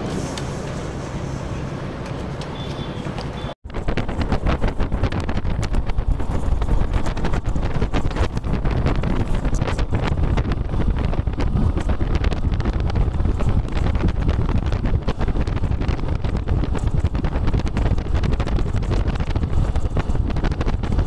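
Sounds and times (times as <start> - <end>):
motorcycle running: 2.1 - 21.0
wind buffeting microphone: 3.1 - 21.0.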